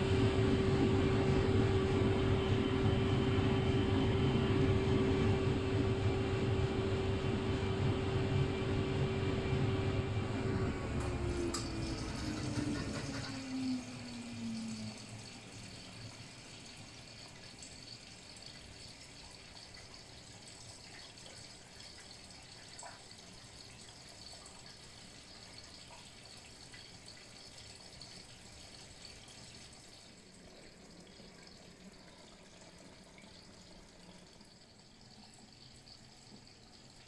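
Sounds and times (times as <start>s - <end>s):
washing machine water sloshing: 0.0s - 37.0s.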